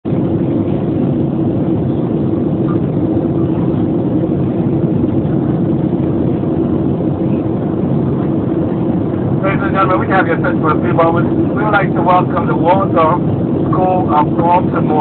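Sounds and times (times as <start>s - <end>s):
jet engine cabin drone: 0.1s - 15.0s
low steady hum: 0.1s - 15.0s.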